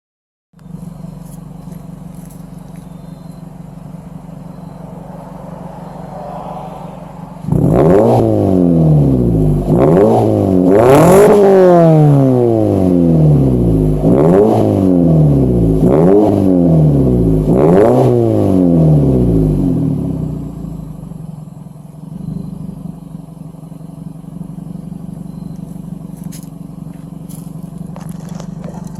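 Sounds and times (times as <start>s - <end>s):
car engine idling: 0.6s - 28.9s
car engine revving: 0.6s - 28.9s.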